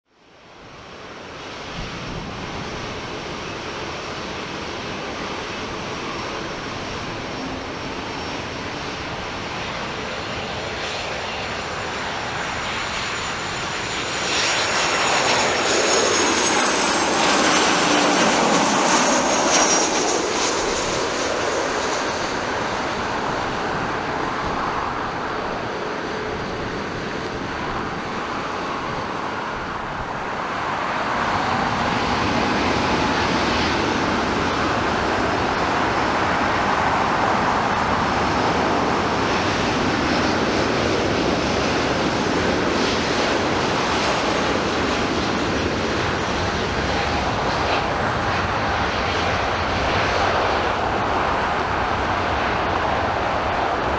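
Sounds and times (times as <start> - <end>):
jet engines roaring: 0.2 - 53.9.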